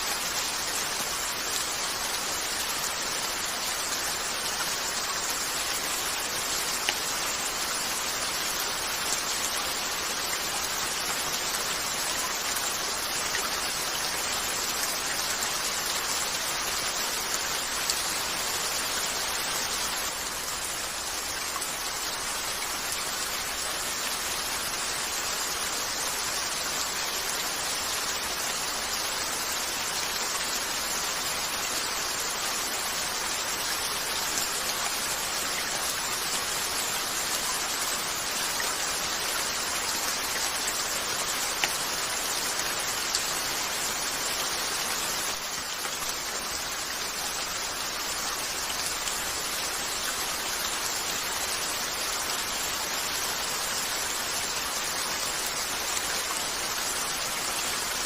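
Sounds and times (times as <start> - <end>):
rain on a window: 0.0 - 58.0.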